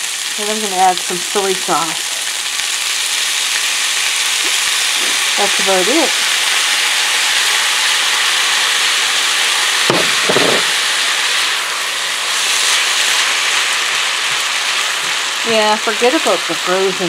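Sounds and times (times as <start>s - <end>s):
rice sizzling in a frying pan: 0.0s - 17.0s.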